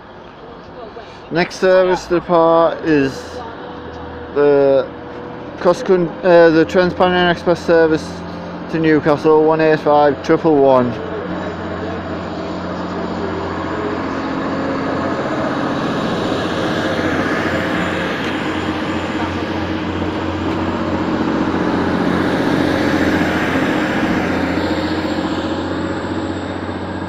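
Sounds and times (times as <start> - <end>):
diesel train pulling away: 0.0 - 27.0.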